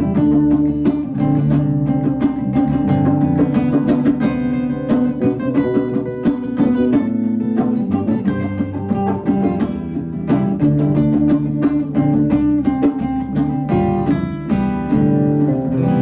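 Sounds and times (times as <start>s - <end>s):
bass: 0.0s - 16.0s
drums: 0.0s - 16.0s
electric guitar: 0.0s - 16.0s.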